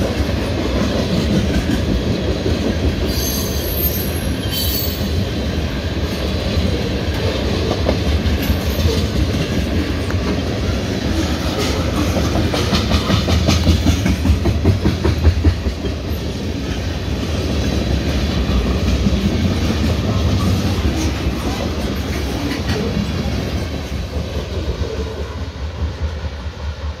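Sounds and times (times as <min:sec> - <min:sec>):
train wheels clacking over rail joints: 0:00.0 - 0:04.8, 0:06.0 - 0:25.4
freight train rumble: 0:00.0 - 0:27.0.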